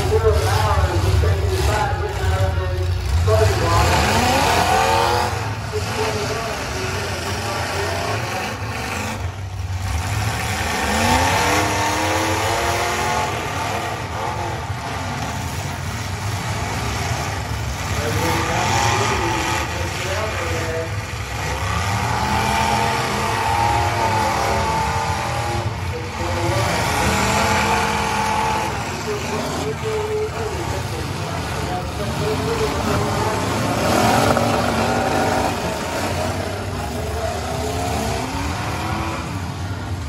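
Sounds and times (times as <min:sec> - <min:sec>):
car engines revving: 0:00.0 - 0:40.0
crowd din: 0:00.0 - 0:40.0.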